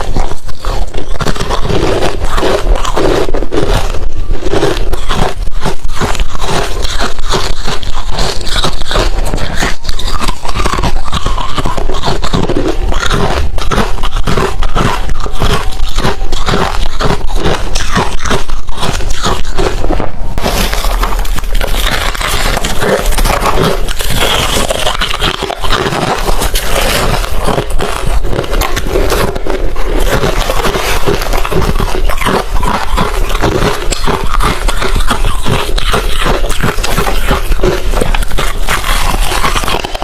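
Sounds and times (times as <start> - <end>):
ice being chewed: 0.0 - 40.0.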